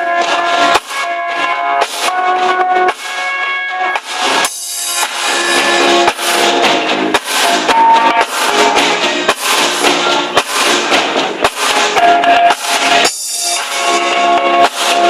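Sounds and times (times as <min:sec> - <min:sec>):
band playing music: 0:00.0 - 0:15.0
drum kit beat: 0:00.0 - 0:15.0.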